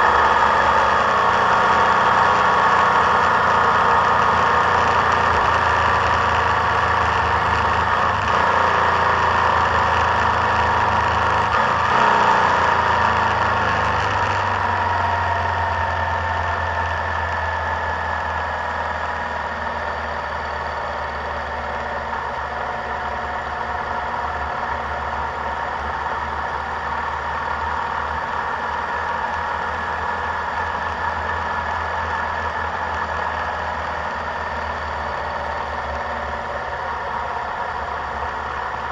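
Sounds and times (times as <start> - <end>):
road noise: 0.0 - 38.9
vehicle engine running: 0.0 - 38.9.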